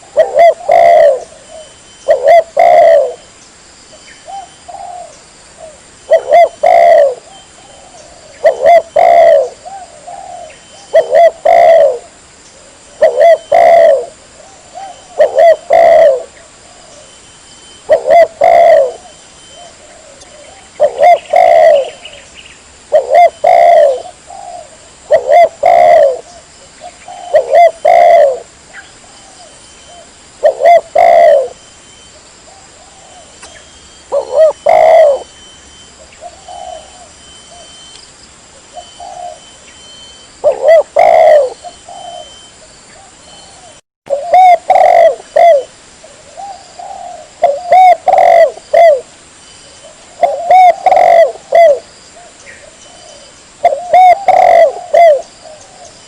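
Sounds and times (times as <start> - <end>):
dove cooing: 0.0 - 3.3, 4.2 - 17.2, 17.8 - 22.3, 22.9 - 31.6, 32.2 - 37.9, 38.6 - 49.1, 49.8 - 56.0.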